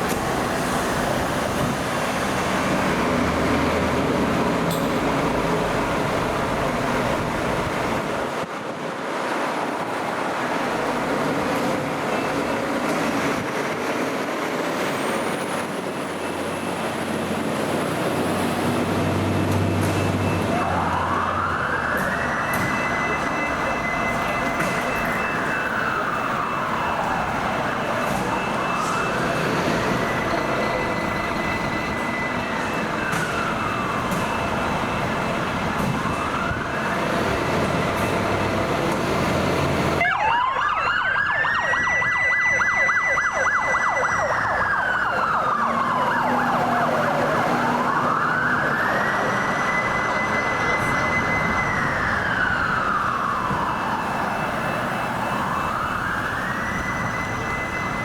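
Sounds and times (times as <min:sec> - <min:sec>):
fire truck siren wailing: 0:00.0 - 0:58.0
traffic noise: 0:00.0 - 0:58.0.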